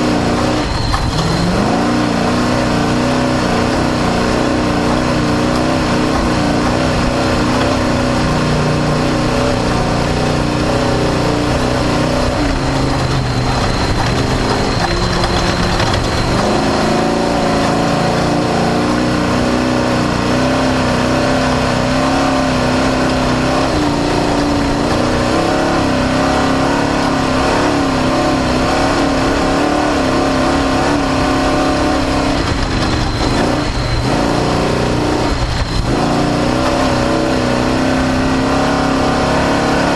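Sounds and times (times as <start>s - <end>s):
car pounding over rough terrain: 0.0s - 19.3s, 21.4s - 39.9s
race car engine revving: 0.0s - 39.9s.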